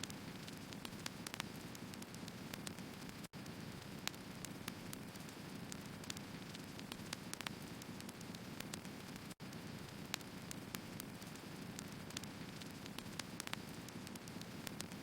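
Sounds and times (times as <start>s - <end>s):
wood fire crackling and hissing: 0.0s - 15.0s.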